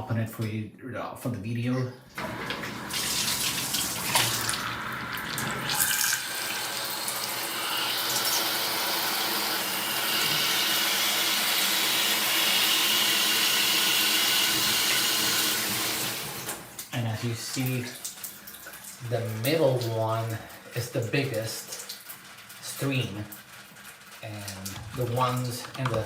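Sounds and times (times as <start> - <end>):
shower spraying water: 2.1 - 26.0.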